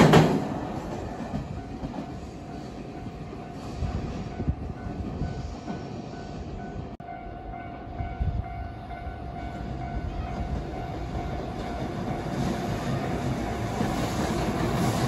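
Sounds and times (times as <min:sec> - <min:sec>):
train rumbling past: 0:00.0 - 0:15.0
train whine: 0:00.0 - 0:15.0.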